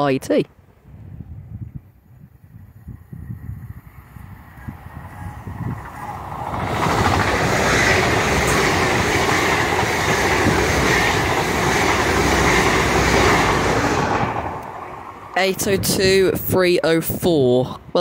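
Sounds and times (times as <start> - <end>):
train passing on rails: 1.6 - 18.0.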